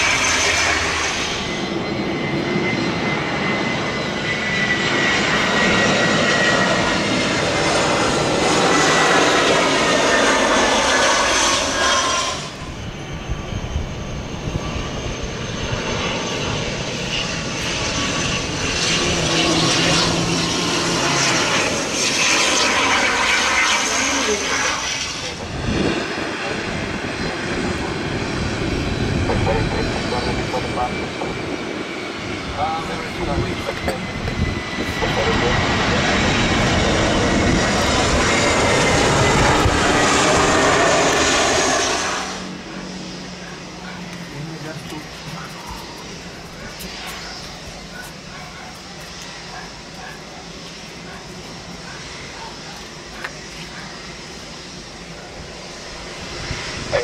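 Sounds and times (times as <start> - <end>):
jet engines on approach: 0.0 - 57.0
turboprop engines whining: 0.0 - 57.0.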